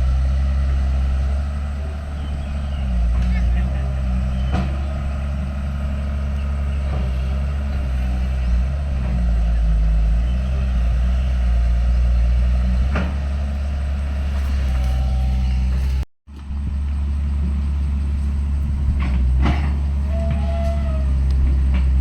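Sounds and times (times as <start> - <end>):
heavy machinery diesel engine: 0.0 - 22.0.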